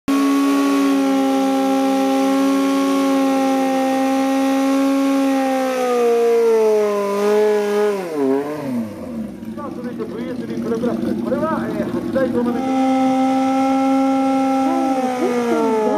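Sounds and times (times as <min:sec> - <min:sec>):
motorcycle engine at high revs: 0:00.1 - 0:15.9.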